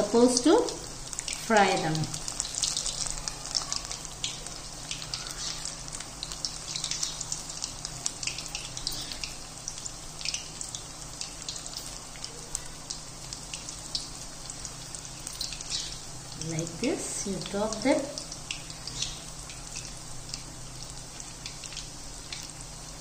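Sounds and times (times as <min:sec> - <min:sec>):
batter deep-frying in hot oil: 0:00.0 - 0:23.0.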